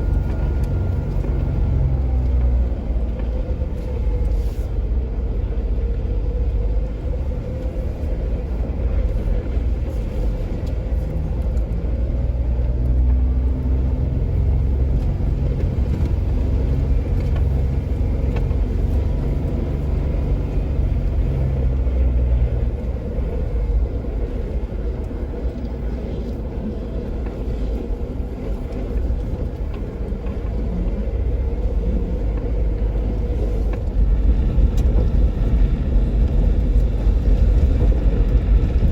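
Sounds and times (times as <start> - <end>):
vehicle engine and tyres rumbling: 0.0 - 38.9.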